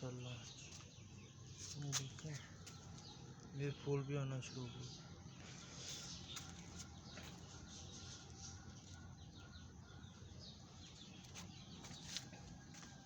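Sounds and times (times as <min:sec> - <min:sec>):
faint bird chirping: 0:00.0 - 0:13.0
low background hum: 0:00.0 - 0:13.0.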